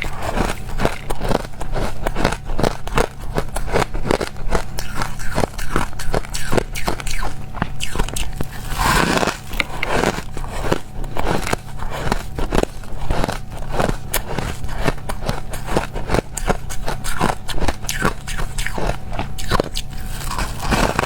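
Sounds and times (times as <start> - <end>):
crushed ice being chewed: 0.0 - 21.0.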